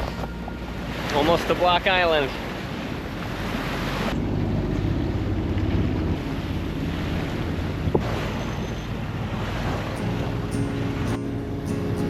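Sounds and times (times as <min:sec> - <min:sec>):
water slapping along hull: 0:00.0 - 0:12.0
wind buffeting microphone: 0:00.0 - 0:12.0.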